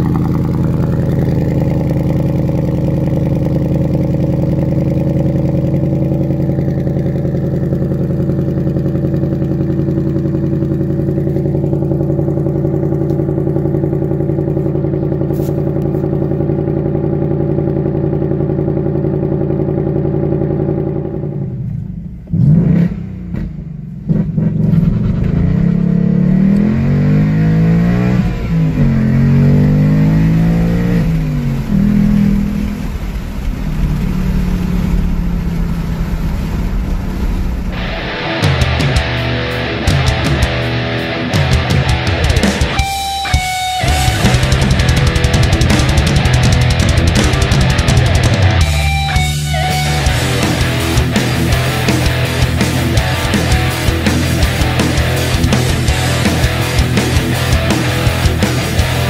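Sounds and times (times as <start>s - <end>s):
car engine idling: 0.0s - 22.6s, 23.4s - 59.0s
car engine accelerating hard: 0.0s - 59.0s.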